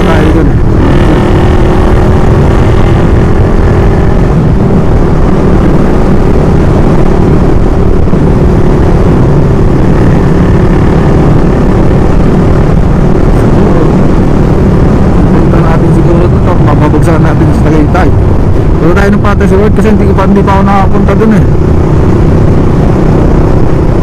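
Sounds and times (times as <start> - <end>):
motorcycle engine drone: 0.0 - 24.0
wind rushing over microphone: 0.0 - 24.0.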